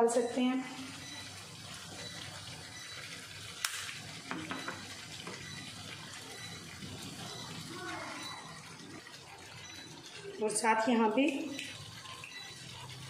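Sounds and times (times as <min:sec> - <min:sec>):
meat frying with a steady sizzle: 0:00.0 - 0:13.0.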